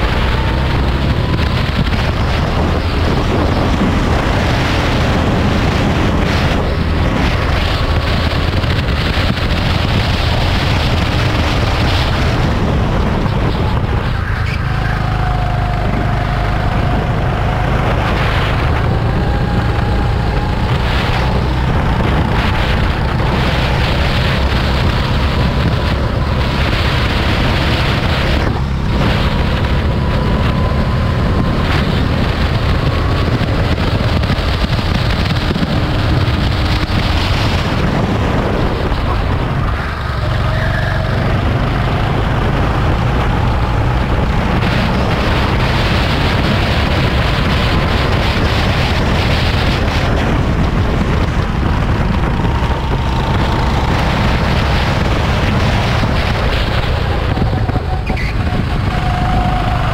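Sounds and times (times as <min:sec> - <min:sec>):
go-kart engine running: 0:00.0 - 0:59.9
wind noise on microphone: 0:00.0 - 0:59.9.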